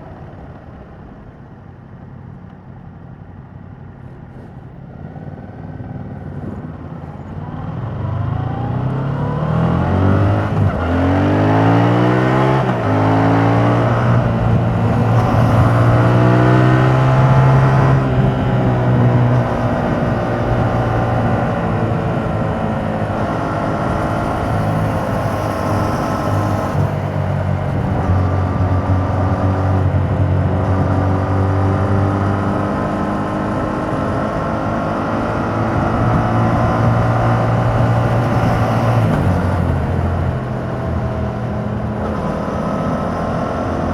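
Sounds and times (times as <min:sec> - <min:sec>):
motorcycle engine accelerating: 0:05.2 - 0:43.9.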